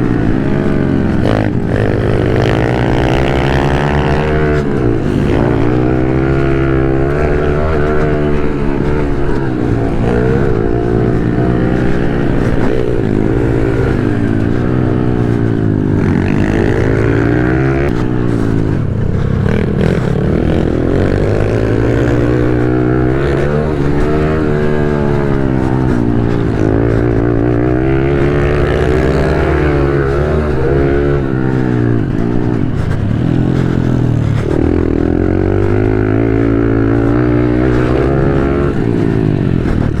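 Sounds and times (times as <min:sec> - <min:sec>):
motorbike engine revving: 0:00.0 - 0:40.0.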